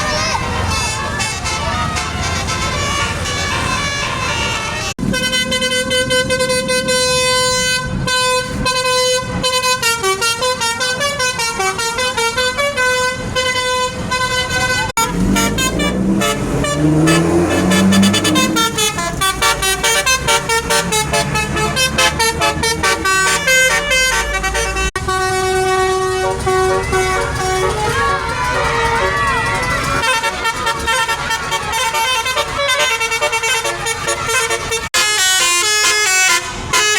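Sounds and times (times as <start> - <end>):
bus musical air horns: 0.0 - 36.9.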